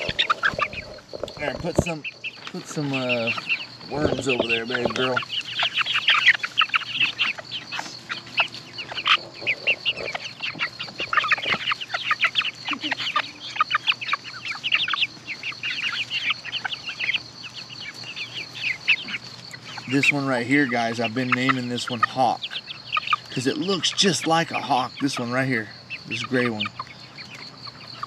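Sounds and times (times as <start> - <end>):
chicks peeping and chirping: 0.0 - 28.0.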